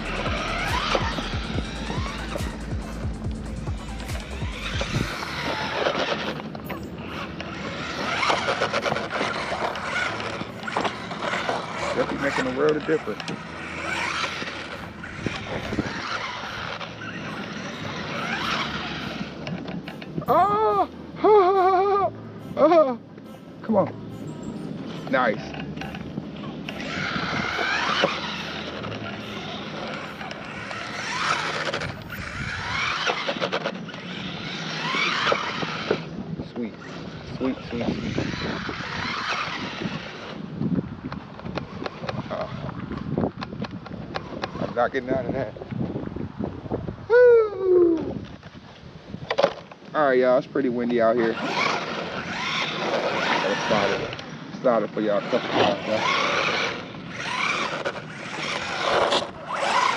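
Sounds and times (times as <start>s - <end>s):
rc car electric motor whining: 0.0s - 46.1s, 49.4s - 59.9s.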